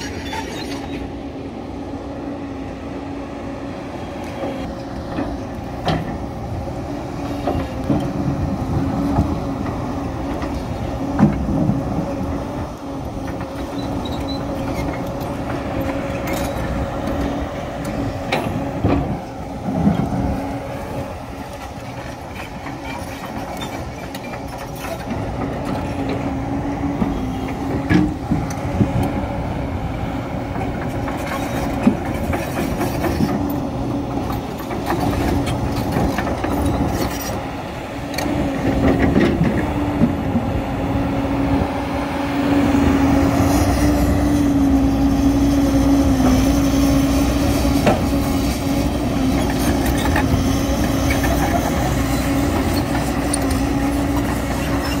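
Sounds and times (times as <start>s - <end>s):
steel tracks clanking: 0.0s - 2.1s, 3.6s - 55.0s
excavator diesel engine droning: 0.0s - 55.0s.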